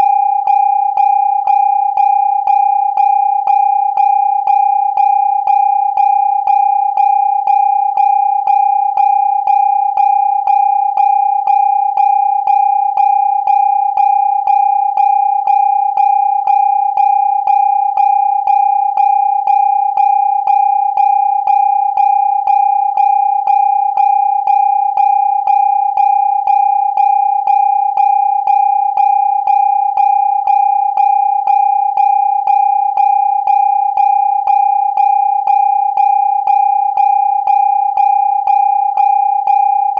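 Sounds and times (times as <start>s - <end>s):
electronic siren steady tone: 0.0s - 39.9s.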